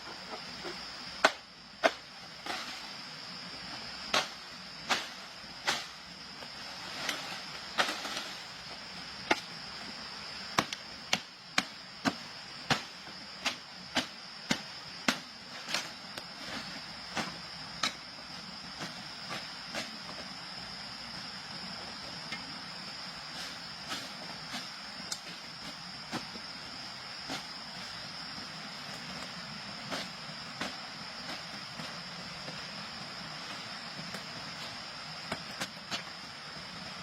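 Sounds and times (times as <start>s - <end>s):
high-pitched hiss: 0.0s - 37.0s.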